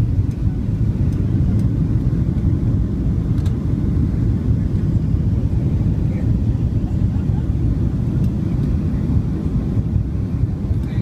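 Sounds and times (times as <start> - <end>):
airflow over wing: 0.0 - 11.0
jet engines rumbling in cabin: 0.0 - 11.0.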